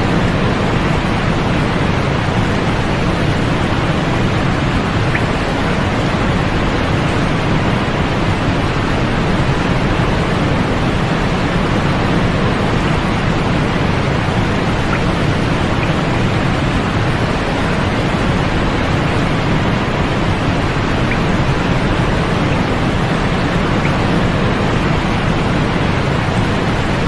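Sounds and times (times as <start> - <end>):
white noise hiss: 0.0 - 27.0.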